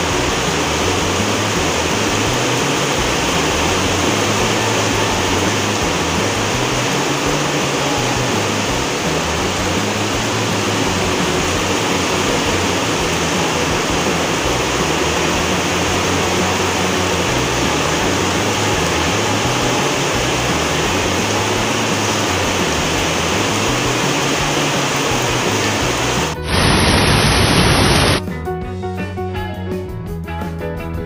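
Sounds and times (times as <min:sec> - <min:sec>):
heavy rain on foliage: 0:00.0 - 0:28.2.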